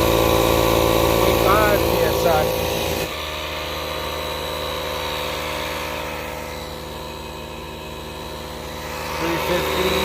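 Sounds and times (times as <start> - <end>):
tire inflator pumps chattering: 0.0 - 10.0.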